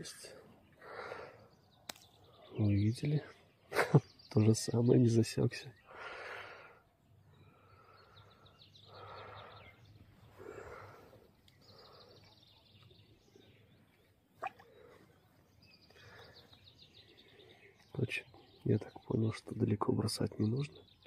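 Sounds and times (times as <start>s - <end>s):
distant birds twittering: 0.0s - 21.0s.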